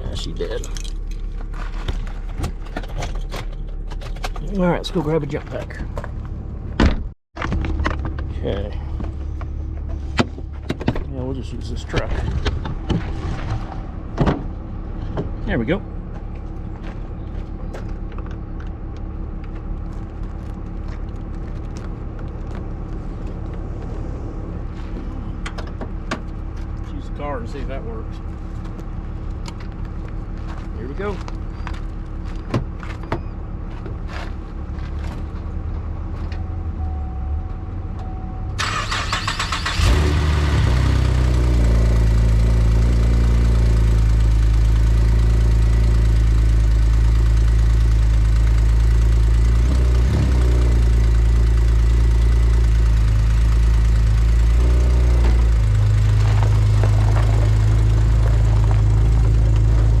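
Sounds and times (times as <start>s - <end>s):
car engine cranking and idling: 0.0s - 60.0s
low engine rumble: 0.0s - 60.0s.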